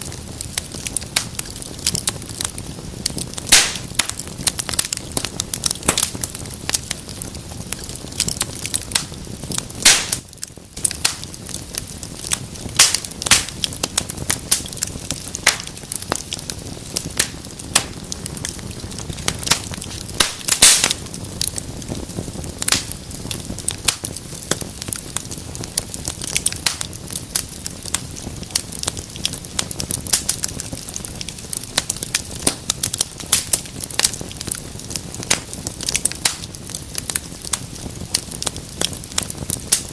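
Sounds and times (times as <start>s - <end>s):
low hiss of flames: 0.0s - 39.9s
wood fire crackling and popping: 0.0s - 39.9s.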